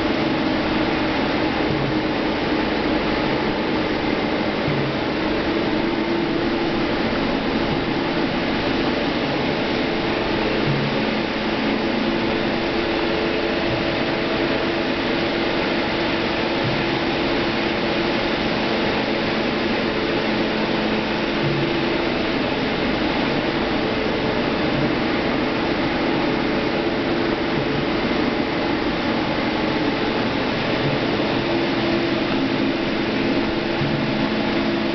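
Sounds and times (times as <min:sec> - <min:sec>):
lathe machine whirring: 0:00.0 - 0:34.9.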